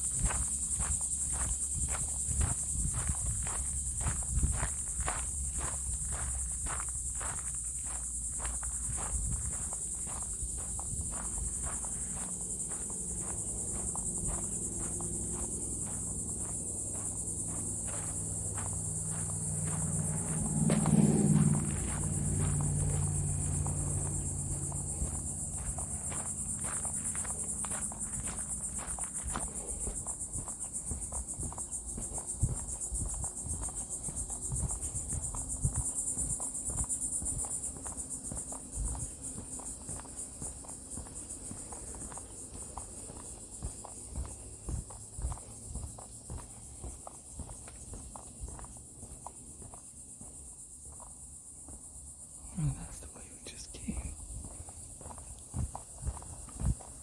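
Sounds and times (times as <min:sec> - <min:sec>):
footsteps walking: 0:00.0 - 0:50.4, 0:54.0 - 0:57.0
high-pitched insect chorus: 0:00.0 - 0:57.0.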